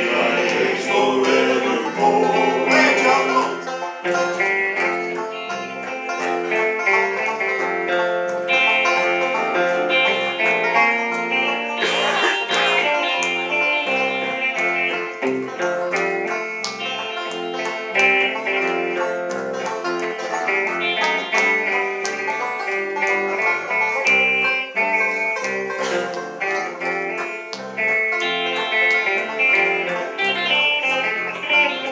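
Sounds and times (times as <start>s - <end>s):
banjo: 0.0s - 31.9s
electric guitar: 0.0s - 31.9s.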